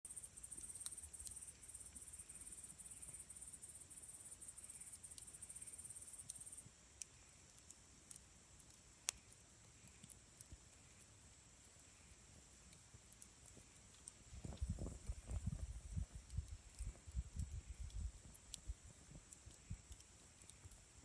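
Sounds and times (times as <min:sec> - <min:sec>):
campfire crackling: 0:00.1 - 0:21.0.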